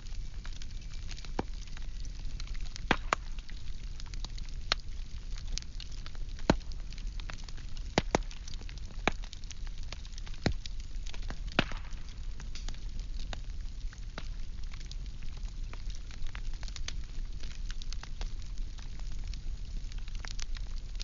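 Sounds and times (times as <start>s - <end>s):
flames rumbling: 0.0s - 21.0s
wood crackling and popping: 0.0s - 21.0s.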